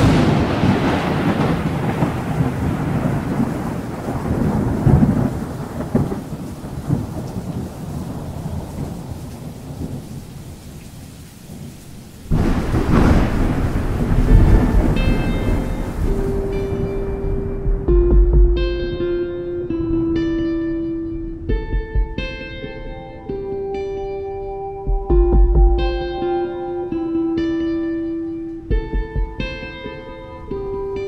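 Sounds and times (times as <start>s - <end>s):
steady rain: 0.0s - 31.0s
thunder rumbling: 0.0s - 31.0s.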